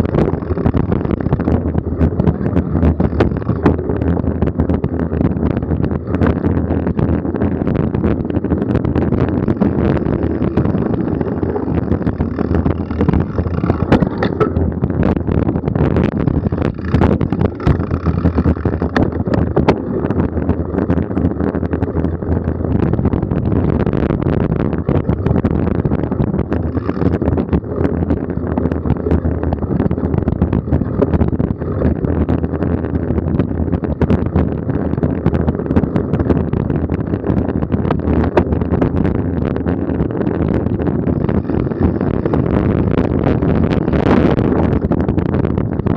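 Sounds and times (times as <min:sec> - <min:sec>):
bike rumbling and rattling on dirt: 0:00.0 - 0:45.9
wind buffeting microphone: 0:00.0 - 0:45.9.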